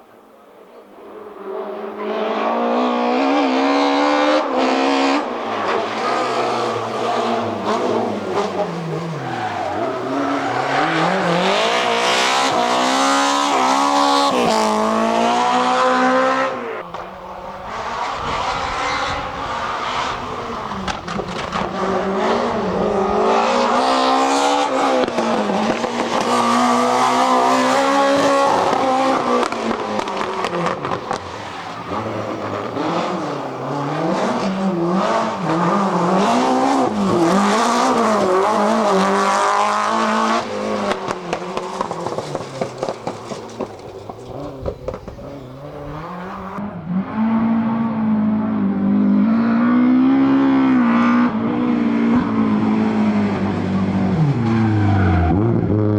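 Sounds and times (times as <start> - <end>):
rally car engine revving: 1.2 - 55.9.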